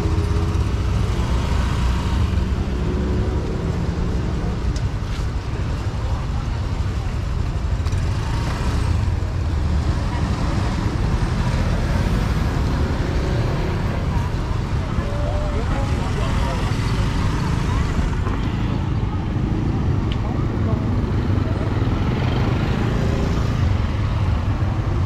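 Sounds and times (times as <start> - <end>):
traffic rumble: 0.0 - 25.0
faint voices: 2.8 - 8.1, 9.1 - 25.0.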